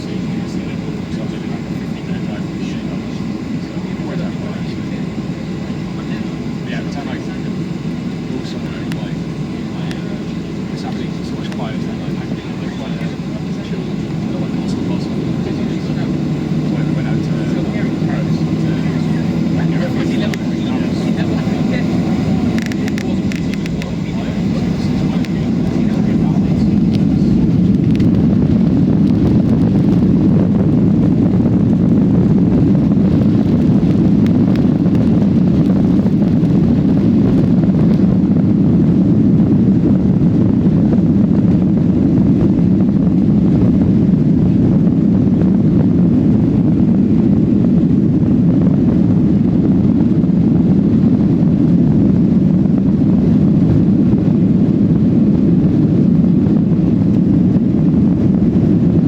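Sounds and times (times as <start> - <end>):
jet engines and rushing air rumble: 0.0 - 59.0.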